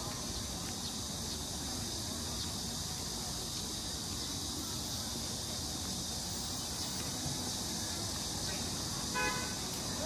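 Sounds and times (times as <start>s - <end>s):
cicadas buzzing: 0.0s - 10.0s
street traffic rumble: 0.0s - 10.0s.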